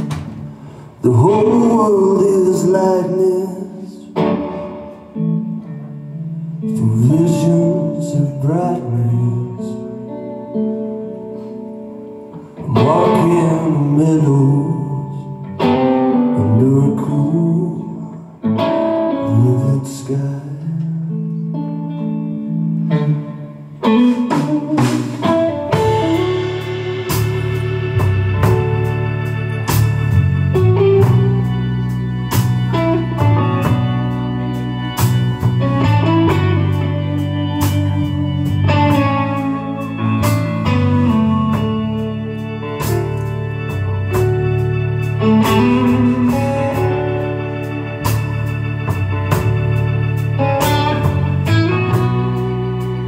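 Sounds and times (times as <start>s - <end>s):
electric guitar chords: 0.0s - 53.0s
live rock band playing: 0.0s - 53.0s.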